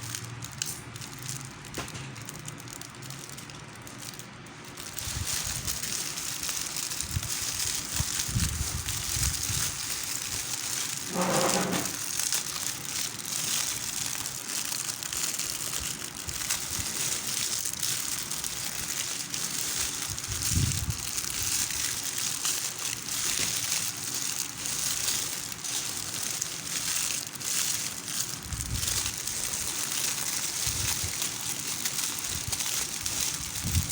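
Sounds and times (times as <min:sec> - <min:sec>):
plastic packaging crinkling: 0:00.0 - 0:33.9.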